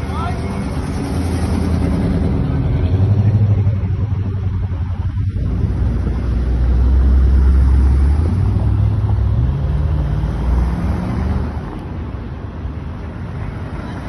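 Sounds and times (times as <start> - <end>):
cars driving past: 0.0 - 14.0.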